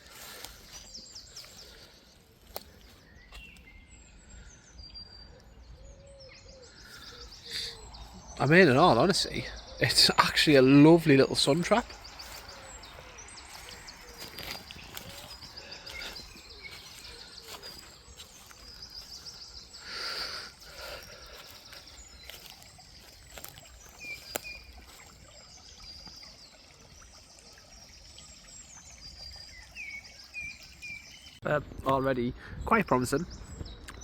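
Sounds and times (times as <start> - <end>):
small stream trickling: 0.0 - 31.4
songbirds singing: 0.0 - 34.0.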